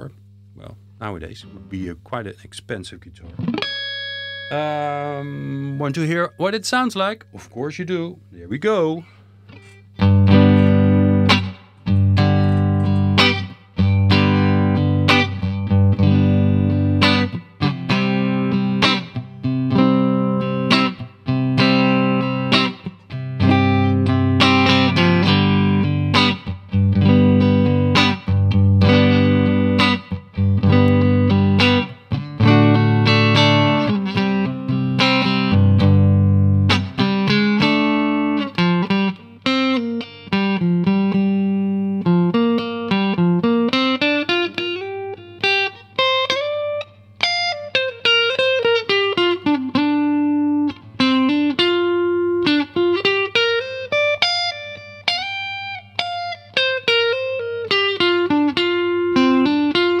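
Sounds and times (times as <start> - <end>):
electric guitar playing: 0.0 - 2.0, 3.0 - 8.8, 9.4 - 60.0.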